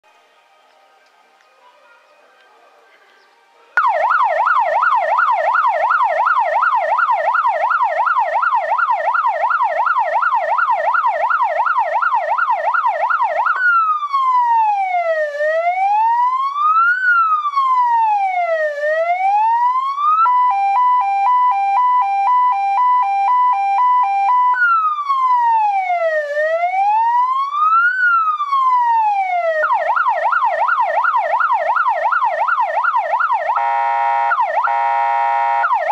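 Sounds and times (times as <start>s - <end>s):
electronic siren cycling tones: 3.8s - 35.9s.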